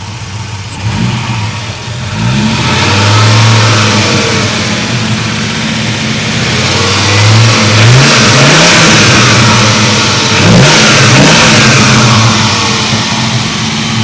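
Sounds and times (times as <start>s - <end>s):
engine revving from idle: 0.0s - 14.0s.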